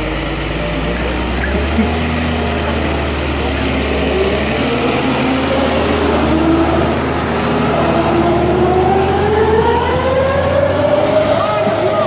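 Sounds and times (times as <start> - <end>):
excavator diesel engine revving: 0.0 - 12.0.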